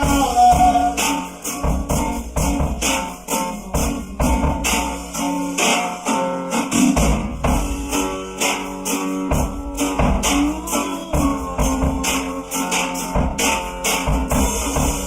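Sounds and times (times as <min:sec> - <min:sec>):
drum kit steady beat: 0:00.0 - 0:15.0
guitar: 0:00.0 - 0:15.0.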